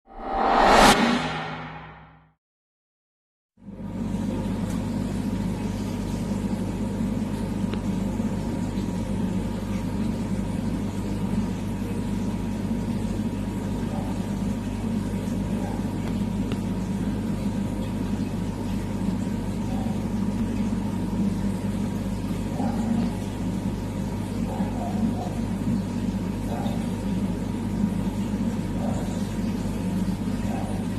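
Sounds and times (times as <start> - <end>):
aquarium pump humming: 3.6 - 30.9.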